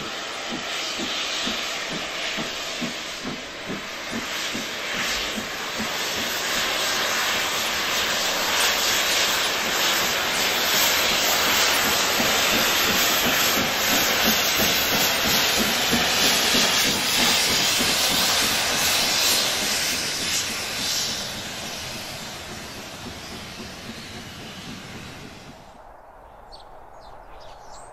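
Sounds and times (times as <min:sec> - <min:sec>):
steam hissing from safety valves: 0:00.0 - 0:25.6.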